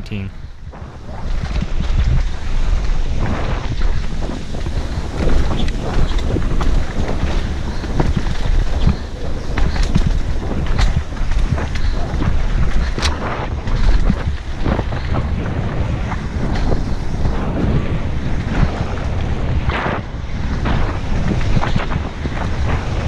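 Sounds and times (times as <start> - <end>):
wind buffeting microphone: 0.4 - 23.0.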